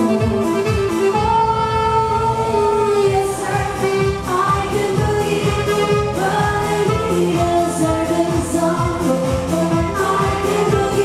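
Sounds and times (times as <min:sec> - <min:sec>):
band with steady beat: 0:00.0 - 0:01.8, 0:03.1 - 0:11.0
woman singing pop song: 0:00.0 - 0:11.0.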